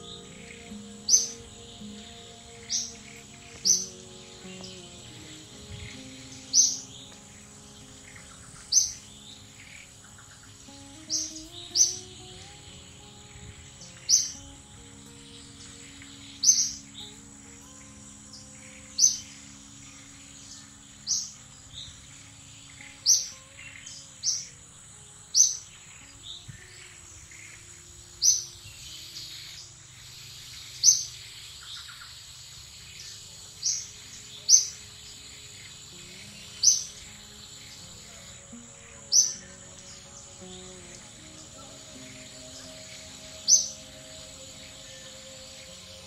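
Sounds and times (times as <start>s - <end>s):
high-pitched insect drone: 0.0s - 32.8s, 33.6s - 46.0s
bird chirping: 0.0s - 46.0s.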